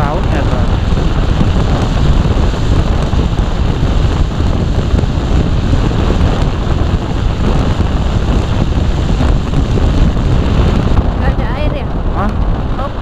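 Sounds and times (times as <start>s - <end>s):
motorcycle riding noise: 0.0s - 13.0s
wind buffeting microphone: 0.0s - 13.0s.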